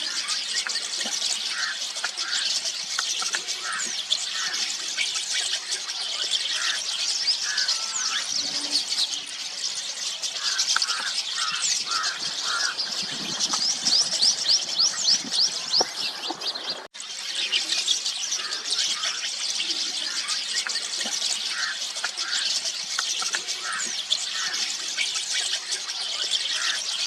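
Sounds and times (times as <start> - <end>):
flock of starlings chattering: 0.0 - 27.0.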